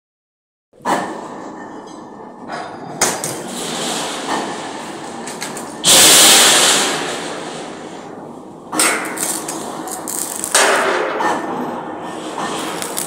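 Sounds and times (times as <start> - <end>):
knocks and clatter on steel: 0.8 - 7.6, 8.2 - 13.0.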